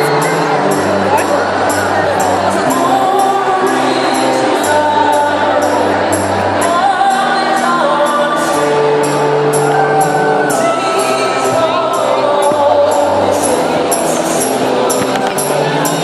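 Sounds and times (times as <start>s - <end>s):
live band with singer: 0.0s - 16.0s.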